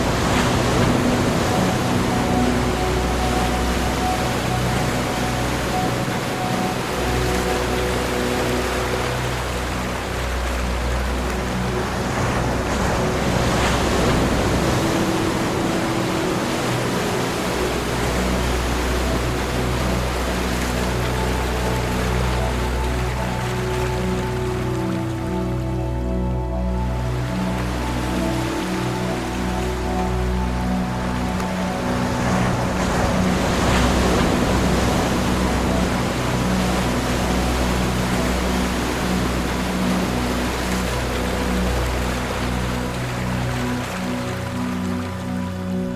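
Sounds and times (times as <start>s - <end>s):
ocean waves washing ashore: 0.0s - 45.9s.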